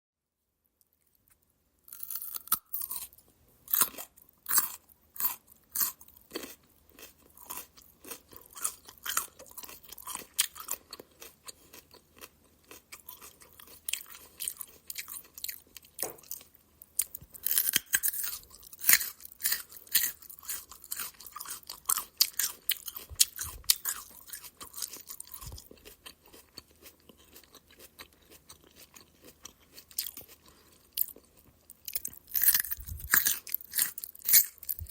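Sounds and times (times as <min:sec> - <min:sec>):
person crunching raw carrot: 0:01.3 - 0:34.9.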